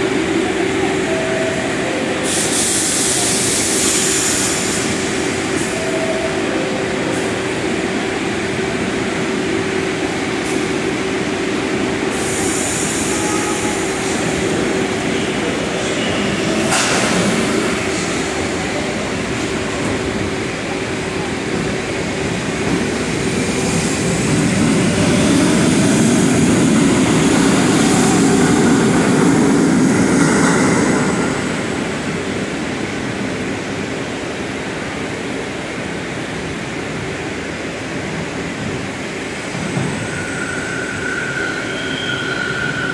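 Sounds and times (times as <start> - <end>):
subway train humming: 0.0 - 42.9
train pulling out: 0.1 - 35.0, 38.6 - 42.9.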